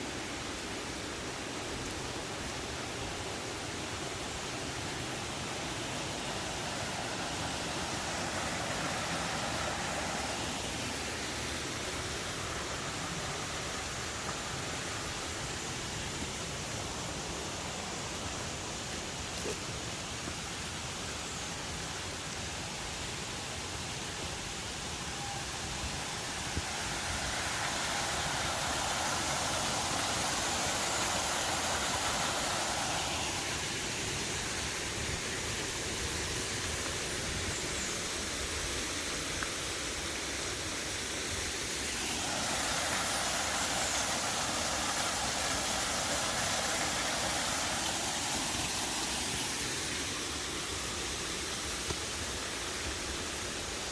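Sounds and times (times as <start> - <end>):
river water rushing over rocks: 0.1 - 20.7, 21.7 - 53.9.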